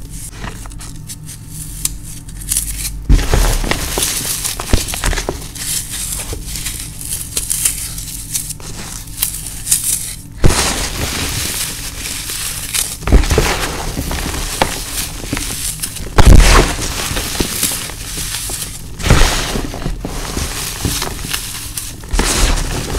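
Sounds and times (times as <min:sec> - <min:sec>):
floral foam crunching: 0:02.3 - 0:22.9.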